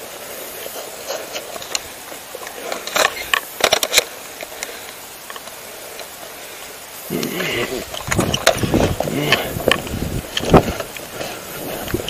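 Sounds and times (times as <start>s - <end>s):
low rustle: 0.0s - 12.0s.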